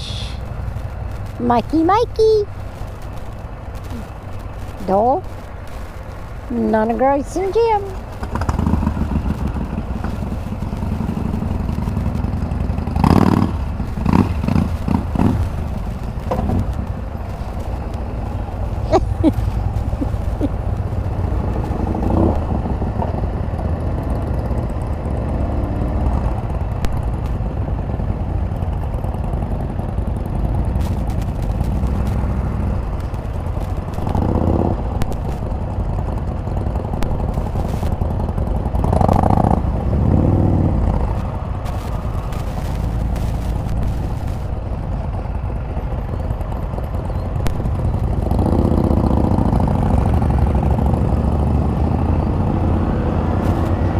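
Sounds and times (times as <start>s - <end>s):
engine running: 0.0s - 53.9s
road and wind noise: 0.0s - 53.9s.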